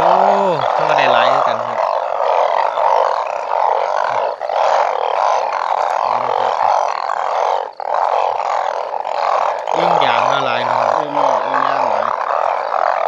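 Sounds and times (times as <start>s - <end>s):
chorus of frogs calling: 0.0s - 13.0s.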